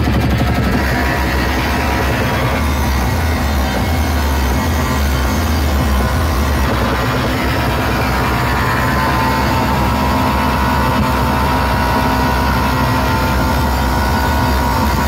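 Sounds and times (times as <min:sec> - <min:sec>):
distorted bass-heavy speaker drone: 0:00.0 - 0:15.0.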